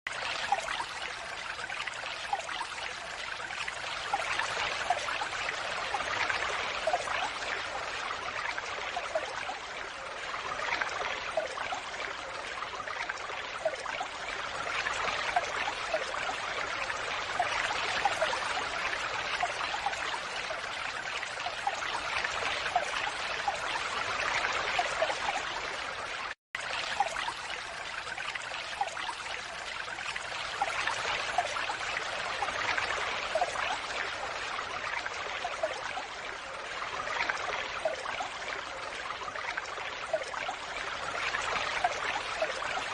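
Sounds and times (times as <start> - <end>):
water pouring and splashing: 0.1 - 42.9.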